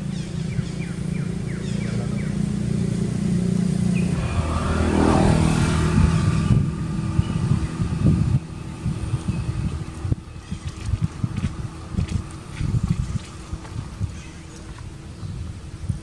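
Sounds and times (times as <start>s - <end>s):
vehicle engine passing by: 0.0s - 14.9s.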